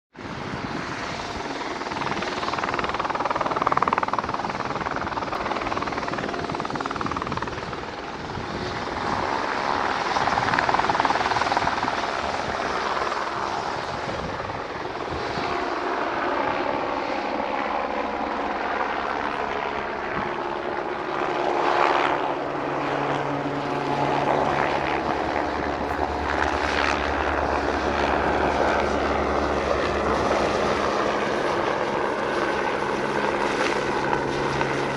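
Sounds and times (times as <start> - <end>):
helicopter rotor and turbine: 0.2 - 34.9.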